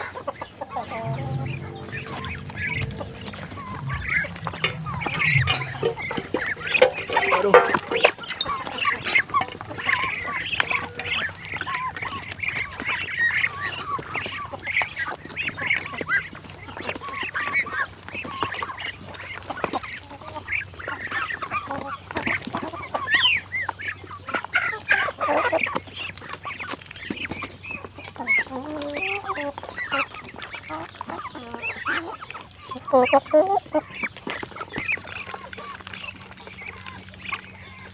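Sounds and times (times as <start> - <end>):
ducks calling: 0.0 - 37.9.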